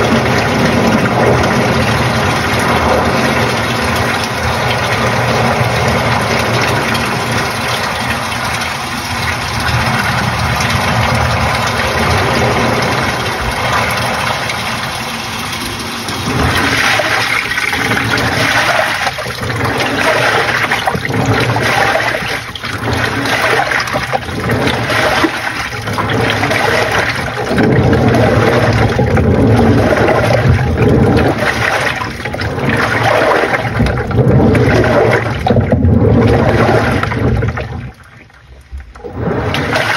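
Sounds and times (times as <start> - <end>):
washing machine motor hum: 0.0 - 39.9
water churning and sloshing: 0.0 - 39.9.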